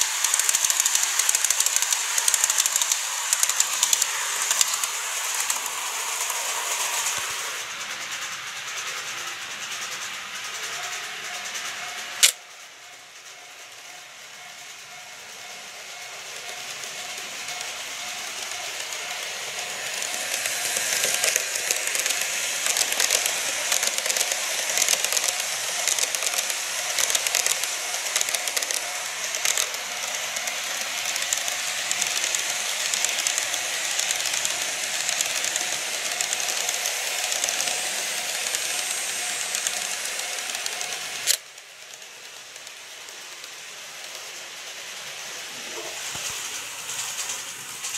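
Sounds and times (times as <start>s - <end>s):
model train wheels rattling on rails: 0.0s - 47.9s.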